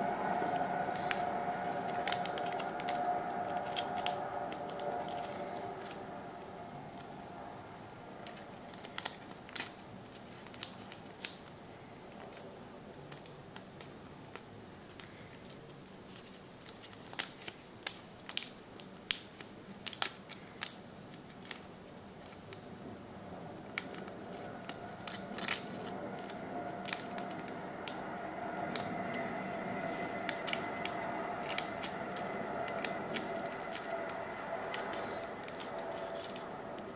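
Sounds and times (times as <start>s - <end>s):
paper crinkling and crackling: 0.0s - 22.7s, 23.5s - 36.9s.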